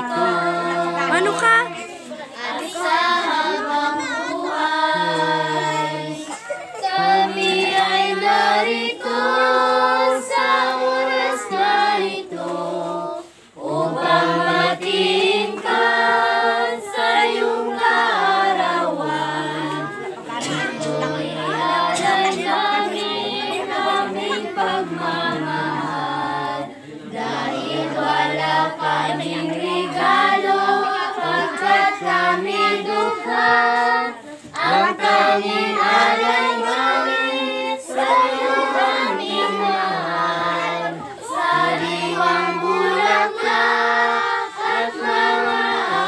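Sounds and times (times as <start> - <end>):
children and women singing: 0.0 - 46.0.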